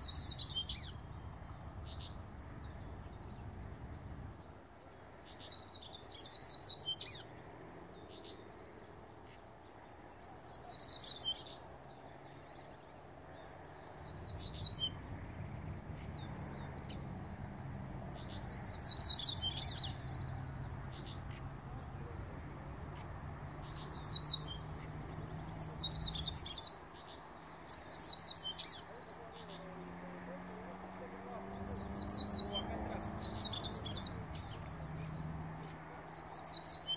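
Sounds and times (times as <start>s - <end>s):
bird twittering song: 0.0s - 36.9s.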